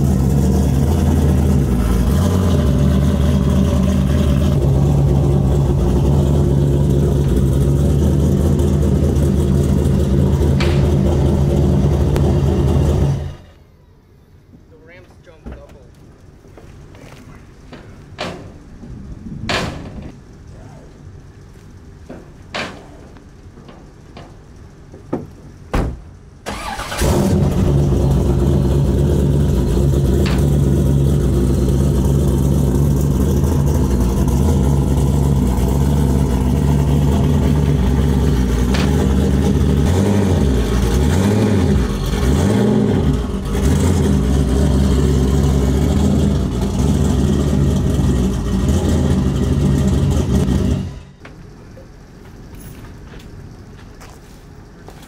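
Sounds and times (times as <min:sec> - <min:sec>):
race car engine running: 0:00.0 - 0:13.6, 0:17.7 - 0:53.8.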